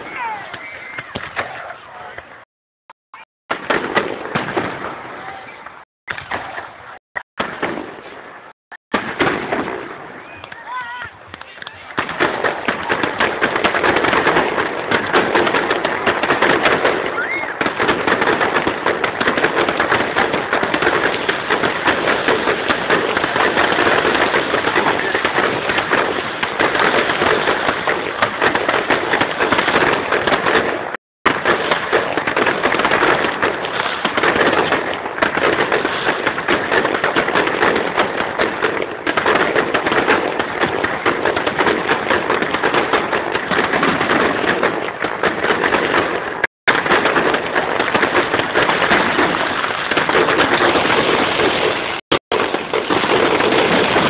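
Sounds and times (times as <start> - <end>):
fireworks crackling and banging: 0.0 - 2.5, 3.2 - 54.0.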